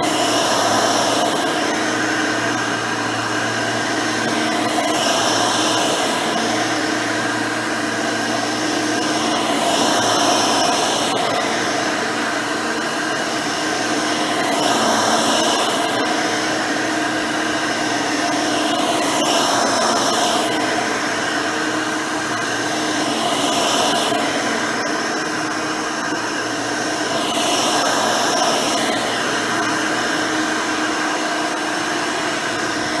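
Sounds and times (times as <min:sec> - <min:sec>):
upright vacuum motor whine: 0:00.0 - 0:33.0.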